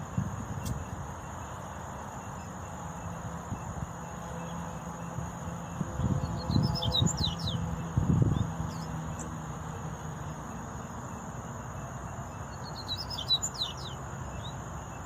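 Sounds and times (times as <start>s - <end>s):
bird chirping: 0.0s - 9.4s, 10.5s - 15.0s.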